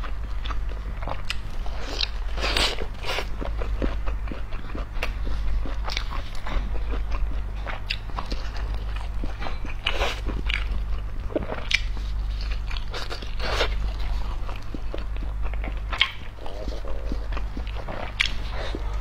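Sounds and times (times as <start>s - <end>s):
chewing soft bun: 0.0s - 19.0s
low steady hum: 0.0s - 19.0s.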